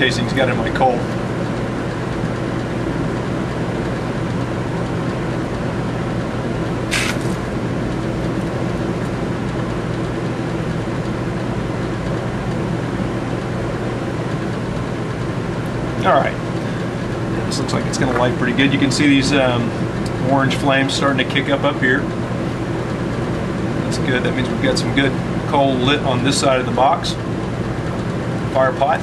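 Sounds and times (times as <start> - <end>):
exhaust fan humming: 0.0 - 29.0.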